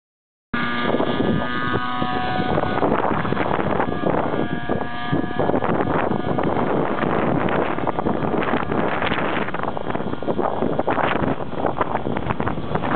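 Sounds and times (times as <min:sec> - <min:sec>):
gusting wind on microphone: 0:00.6 - 0:12.9
model helicopter hovering: 0:00.6 - 0:12.9.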